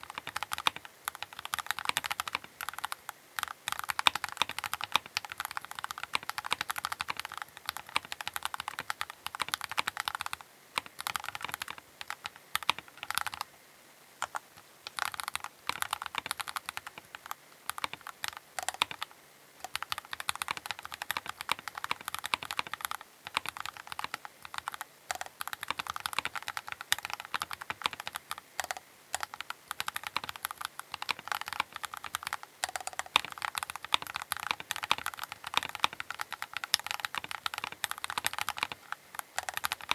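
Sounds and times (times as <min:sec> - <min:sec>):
mechanical keyboard typing: 0:00.0 - 0:13.5, 0:14.2 - 0:39.9.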